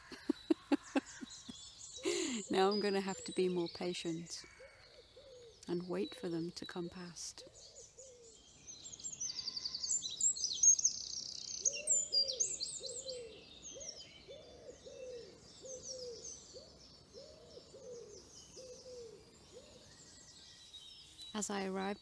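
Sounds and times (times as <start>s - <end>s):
songbirds chirping and trilling: 0.0s - 22.0s.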